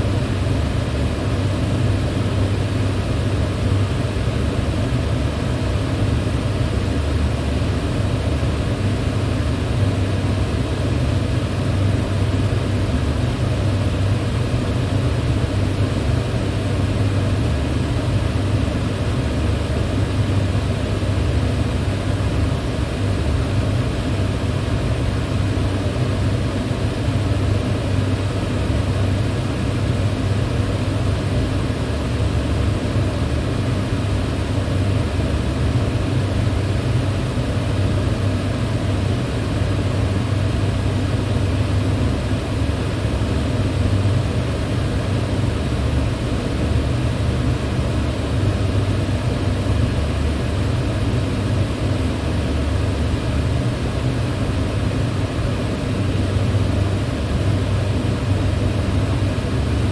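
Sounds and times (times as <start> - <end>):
electric fan humming: 0.0 - 59.9.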